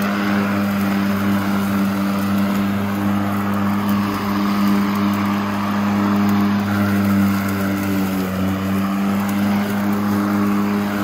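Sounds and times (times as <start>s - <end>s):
electric lawn mower humming: 0.0s - 11.0s.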